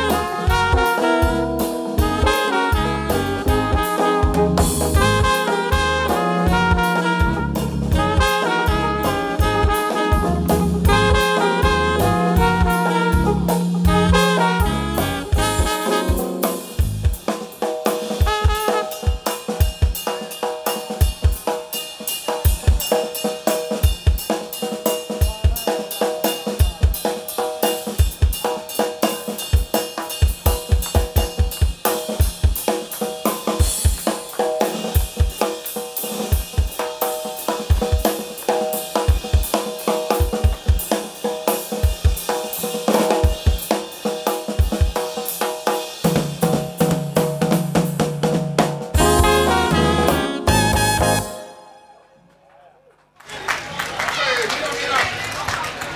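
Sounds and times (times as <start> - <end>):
drum kit solo: 0.0 - 52.0.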